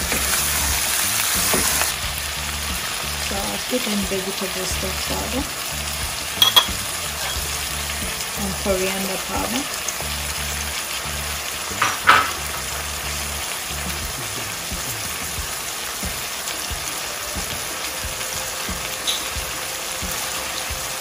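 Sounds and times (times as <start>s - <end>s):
meat and onions sizzling: 0.0s - 21.0s.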